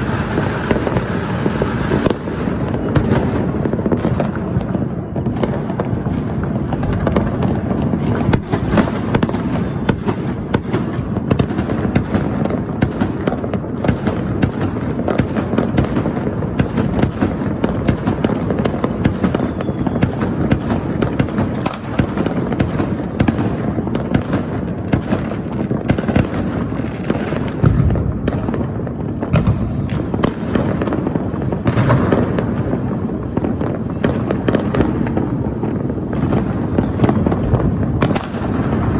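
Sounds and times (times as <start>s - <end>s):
firecrackers crackling and banging: 0.0s - 38.9s
heavy firework booms: 0.0s - 38.9s.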